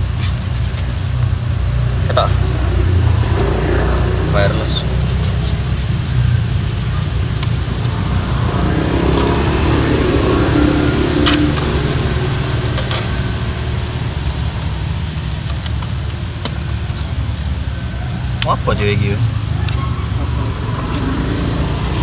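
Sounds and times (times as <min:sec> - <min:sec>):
road traffic rumble: 0:00.0 - 0:22.0
engine note: 0:01.3 - 0:22.0.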